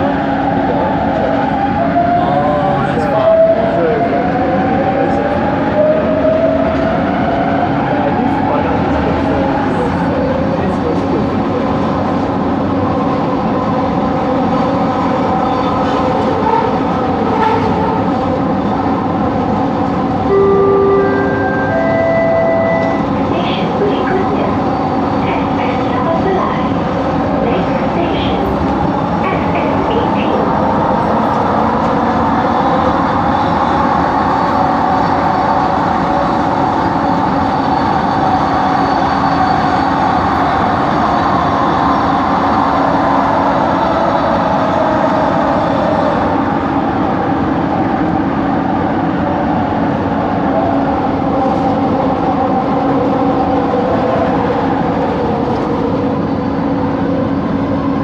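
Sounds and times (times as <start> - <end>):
train coach running noise: 0.0 - 58.0.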